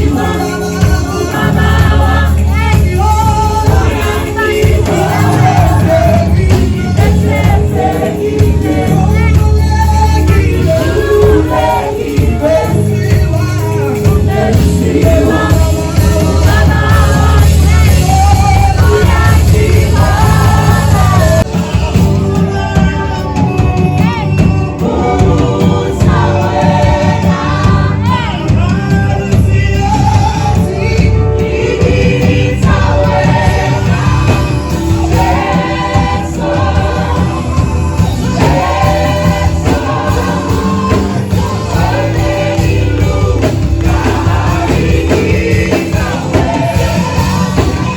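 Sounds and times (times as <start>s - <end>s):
song with singing voices: 0.0s - 47.9s
strong bass: 0.0s - 47.9s.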